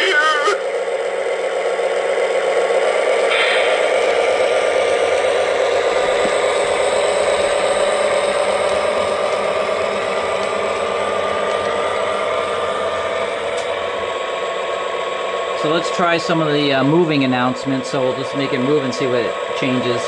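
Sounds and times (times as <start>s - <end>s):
diesel engine sound effects: 0.0s - 20.0s
toy train rattling rumble: 0.0s - 20.0s.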